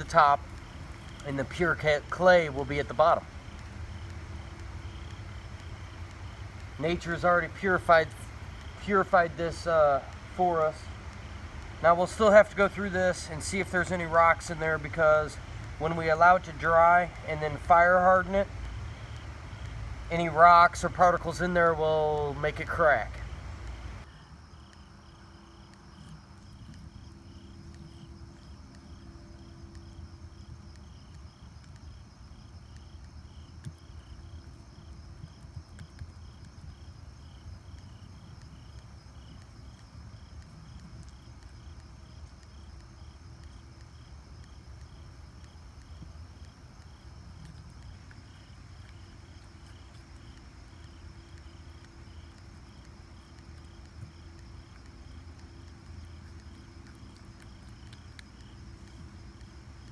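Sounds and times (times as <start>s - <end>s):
hands kneading wet clay: 0.0s - 59.9s
insects chirping: 0.0s - 59.9s.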